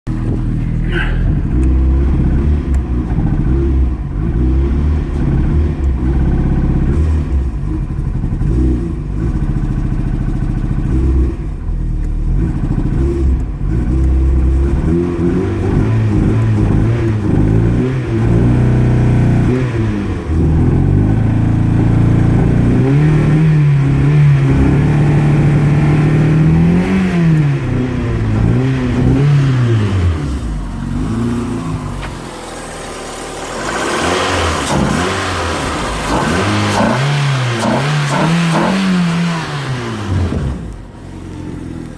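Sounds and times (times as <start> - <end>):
engine running roughly: 0.1 - 41.9.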